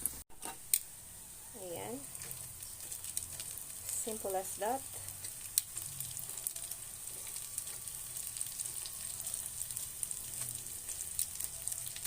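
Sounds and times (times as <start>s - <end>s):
oil crackles and pops: 0.0s - 1.0s, 1.9s - 12.0s
deep-frying sizzle: 0.0s - 12.0s.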